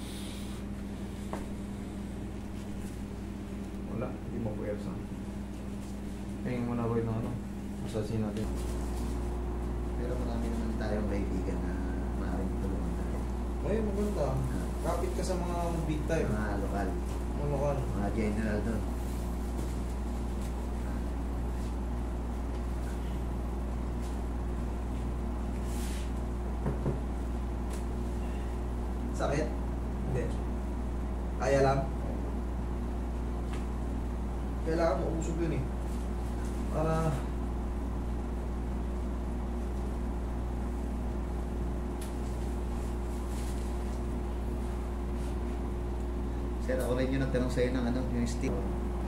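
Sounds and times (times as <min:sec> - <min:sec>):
appliance humming: 0:00.0 - 0:49.0.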